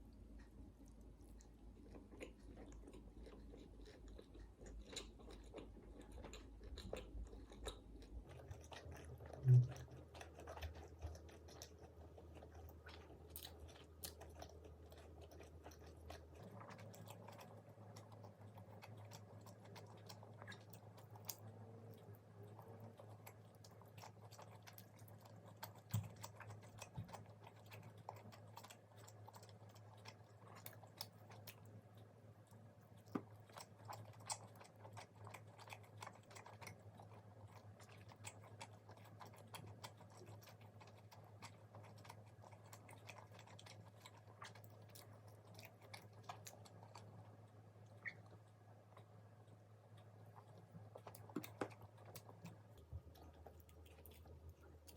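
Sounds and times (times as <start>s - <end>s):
chewing crisp fried food: 0.0s - 54.9s.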